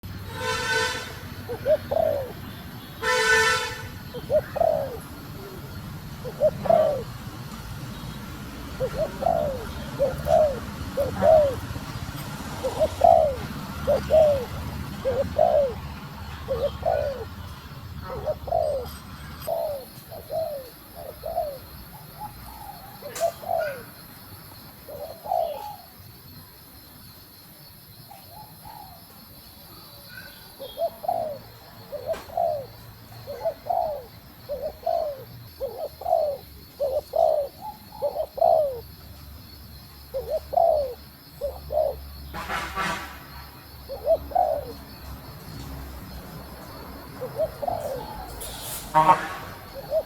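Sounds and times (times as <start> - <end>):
dove cooing: 0.0 - 24.0, 24.8 - 25.9, 30.1 - 39.1, 40.0 - 42.2, 43.7 - 45.1, 46.6 - 50.0.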